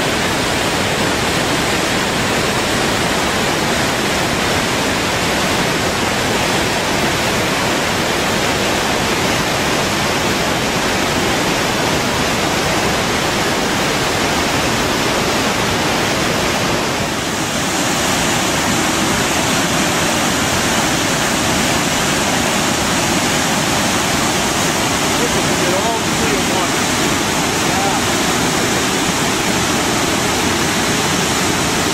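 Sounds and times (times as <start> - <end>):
waterfalls and whitewater rushing: 0.0 - 31.9.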